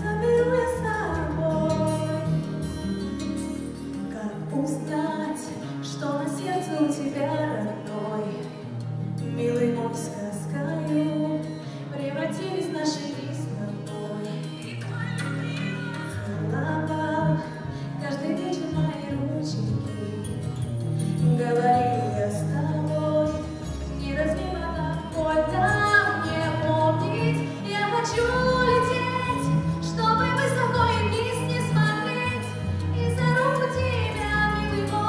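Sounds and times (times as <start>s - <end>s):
woman singing slow song: 0.0s - 2.4s, 4.0s - 35.0s
instrumental backing music: 0.0s - 35.0s.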